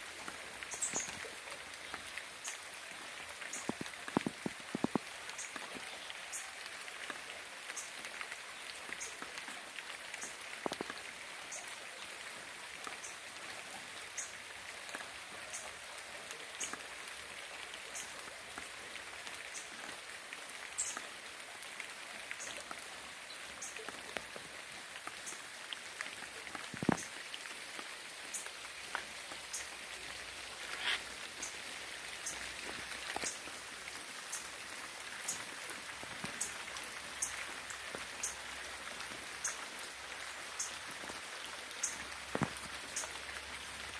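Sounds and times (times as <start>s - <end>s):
raindrops striking close by: 0.0s - 43.9s
steady rain hiss: 0.0s - 43.9s.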